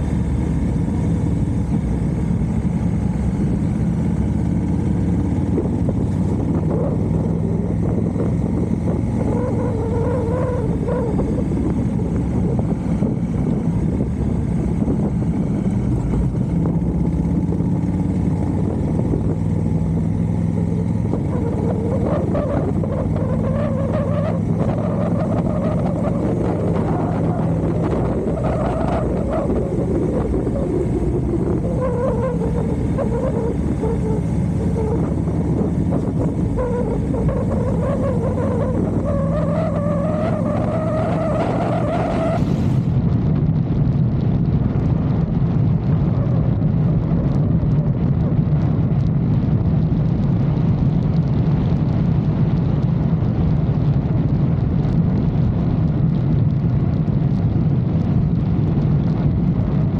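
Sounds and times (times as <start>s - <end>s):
motorcycle engine running: 0.0s - 59.9s
steady rushing noise: 0.0s - 59.9s.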